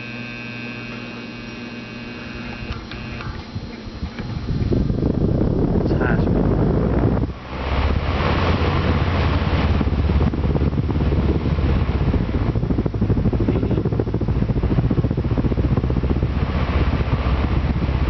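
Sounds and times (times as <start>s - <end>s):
desk fan running: 0.0s - 18.0s.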